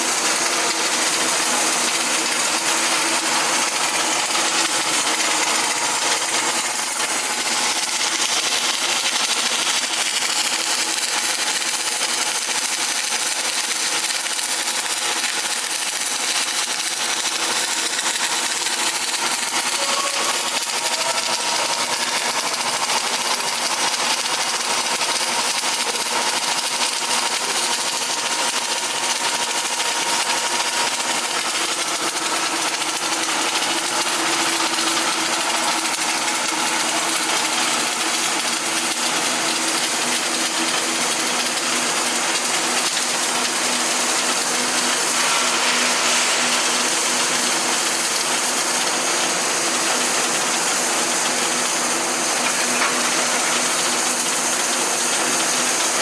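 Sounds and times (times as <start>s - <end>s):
welding arc hissing: 0.0s - 56.0s.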